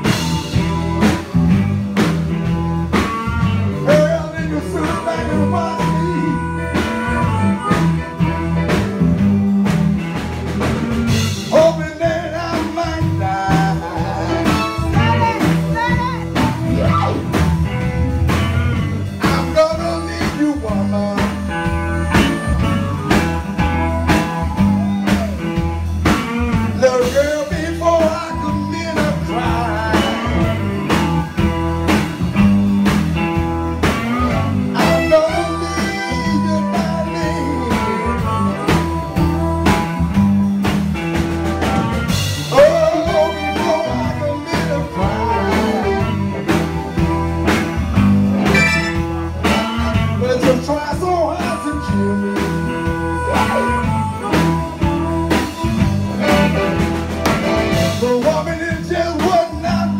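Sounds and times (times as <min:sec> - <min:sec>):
bass guitar: 0:00.0 - 0:59.9
lead electric guitar bending notes: 0:00.0 - 0:59.9
steady drum beat: 0:00.0 - 0:59.9.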